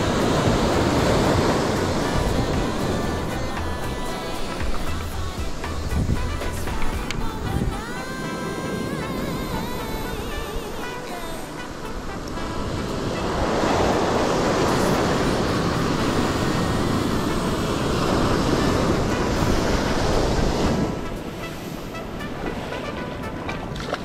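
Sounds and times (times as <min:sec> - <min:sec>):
ocean surf washing up beach: 0:00.0 - 0:24.0.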